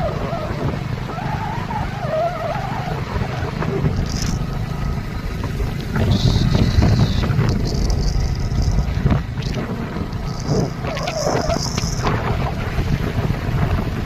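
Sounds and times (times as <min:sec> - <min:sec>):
vehicle rumbling along a road: 0:00.0 - 0:14.0
wind on microphone: 0:02.6 - 0:14.0.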